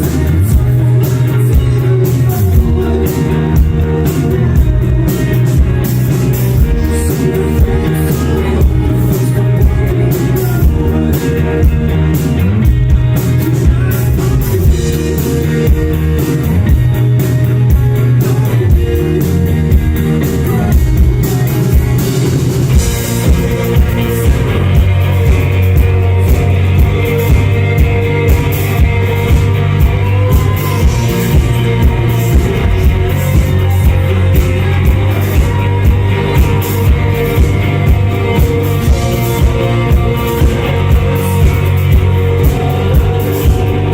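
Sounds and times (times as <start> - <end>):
bass guitar: 0.0 - 43.9
drum kit beat: 0.0 - 43.9
electric guitars: 0.0 - 43.9
person singing: 0.0 - 43.9.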